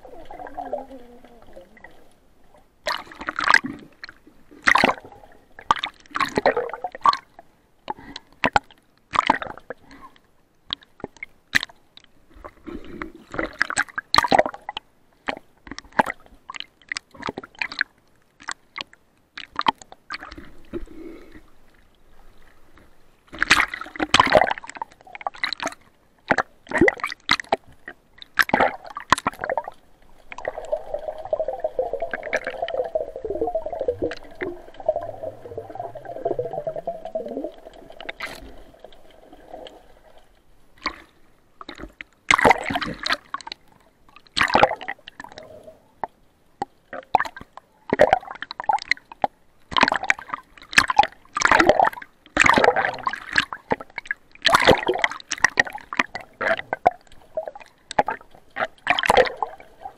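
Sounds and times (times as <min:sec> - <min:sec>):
water splashing and sloshing: 0:00.0 - 0:59.9.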